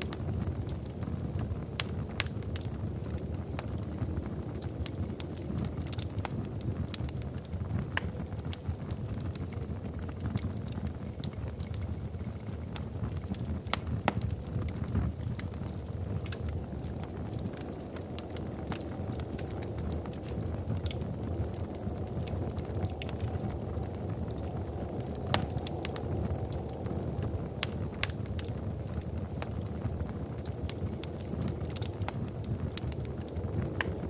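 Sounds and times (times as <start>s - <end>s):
fire crackling and popping: 0.0s - 34.0s
fire flames rumbling: 0.0s - 34.0s.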